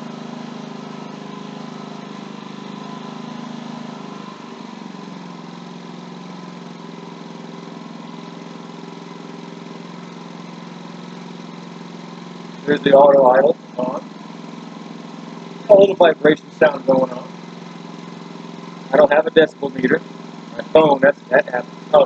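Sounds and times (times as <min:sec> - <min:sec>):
generator running: 0:00.0 - 0:22.0.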